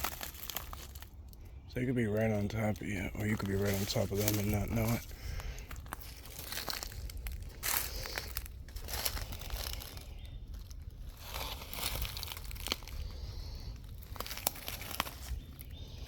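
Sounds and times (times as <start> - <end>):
footsteps crunching dry leaves: 0.0 - 16.0
steady low rumble: 0.0 - 16.0.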